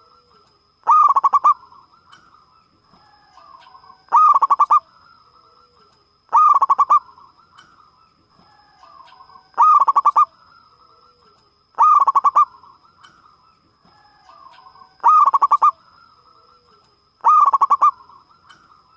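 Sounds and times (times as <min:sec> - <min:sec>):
dove cooing: 0:00.0 - 0:02.3, 0:03.0 - 0:07.7, 0:08.4 - 0:13.3, 0:14.0 - 0:18.7.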